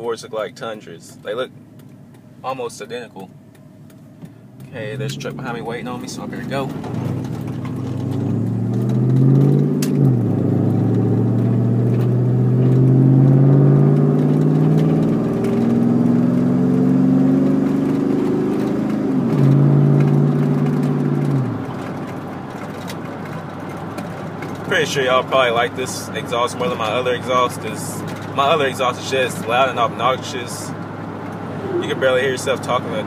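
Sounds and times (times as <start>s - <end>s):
pickup truck exhaust accelerating: 4.2s - 33.0s.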